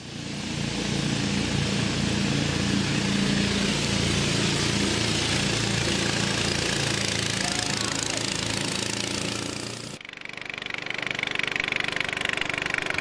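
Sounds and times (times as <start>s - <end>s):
small boat engines running: 0.0s - 13.0s.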